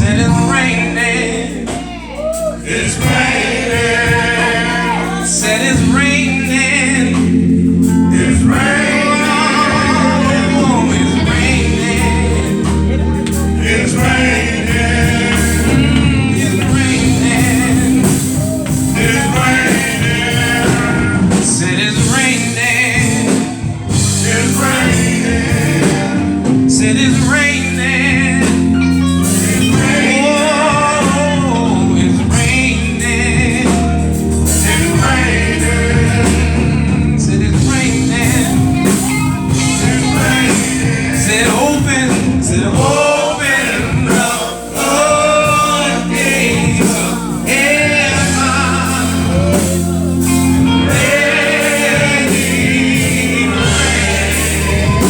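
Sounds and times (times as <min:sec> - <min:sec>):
band accompaniment with bass: 0:00.0 - 0:55.0
gospel singing: 0:00.0 - 0:55.0.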